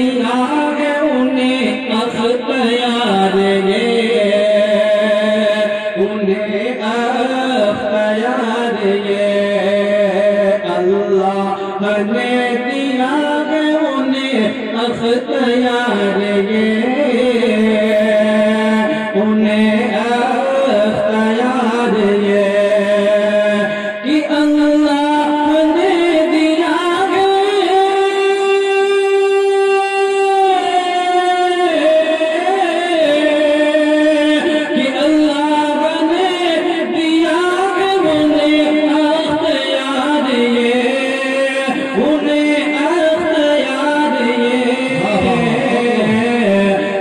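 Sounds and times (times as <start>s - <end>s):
man singing into a microphone: 0.0s - 47.0s.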